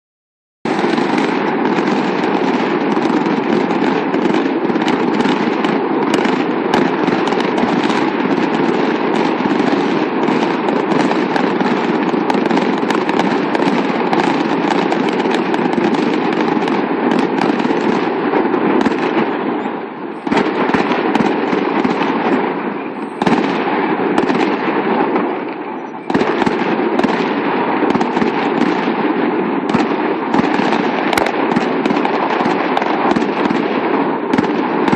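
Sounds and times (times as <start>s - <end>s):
fireworks bangs and crackles: 0.7s - 34.9s.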